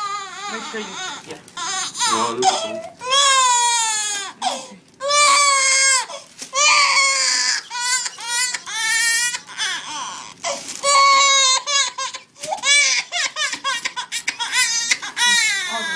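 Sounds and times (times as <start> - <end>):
baby crying: 0.0 - 15.9.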